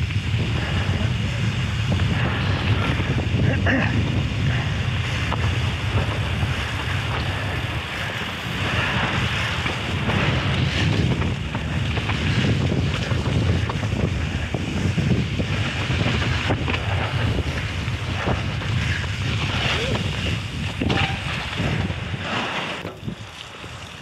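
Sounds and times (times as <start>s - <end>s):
bike knocking and rattling: 0.0s - 24.0s
tyres rumbling on trail: 0.0s - 24.0s
wind buffeting microphone: 0.0s - 24.0s.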